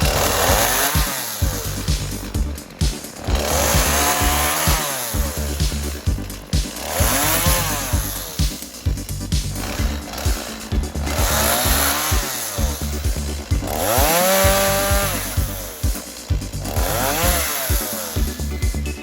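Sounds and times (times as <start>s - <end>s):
chainsaw revving: 0.0s - 18.8s
background music with steady beat: 0.0s - 19.0s.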